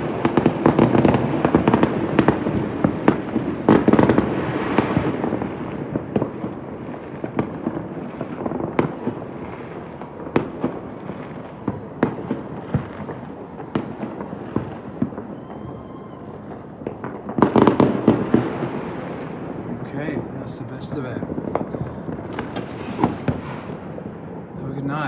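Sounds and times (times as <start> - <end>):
distant rumble of fireworks: 0.0 - 25.0
sharp firework bangs and cracks: 0.0 - 25.0.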